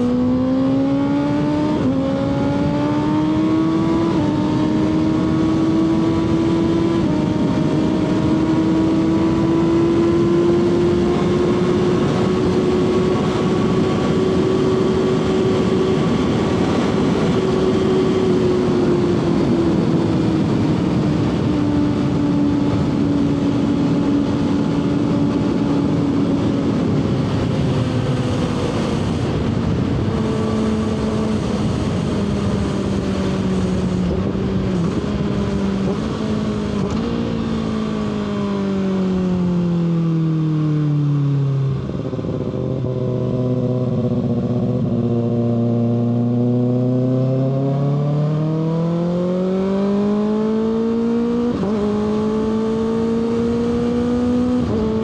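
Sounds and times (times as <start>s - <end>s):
heavy wind rush: 0.0s - 40.2s, 41.4s - 48.0s.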